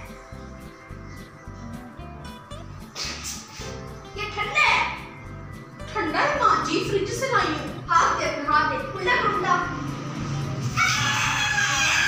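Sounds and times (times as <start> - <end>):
background music with low beat: 0.0 - 11.4.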